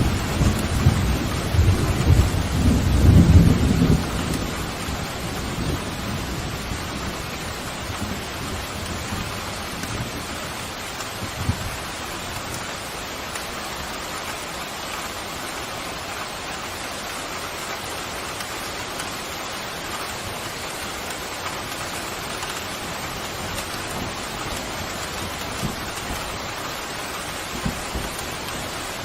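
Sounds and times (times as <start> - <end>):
pouring rain: 0.0 - 29.0.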